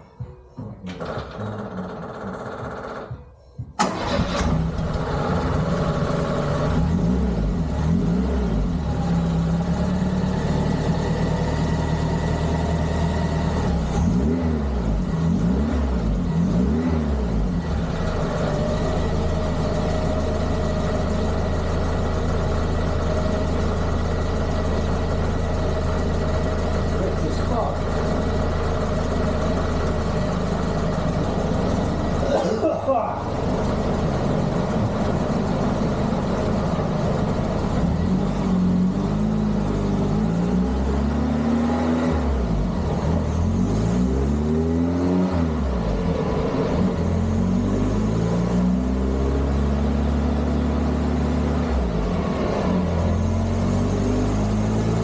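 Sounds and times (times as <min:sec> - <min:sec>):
car engine starting and running: 0:00.0 - 0:55.0.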